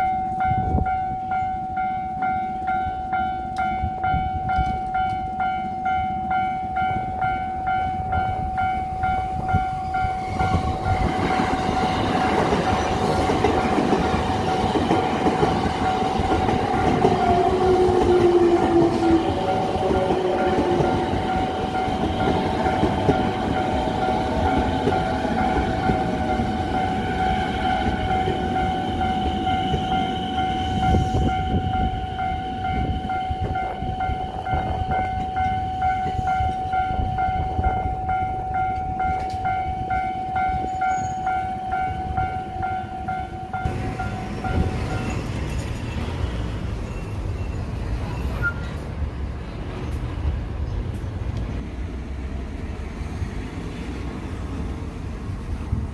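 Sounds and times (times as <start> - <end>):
level-crossing alarm bell ringing: 0.0 - 48.4
train wheels rumbling on rails: 0.0 - 55.9.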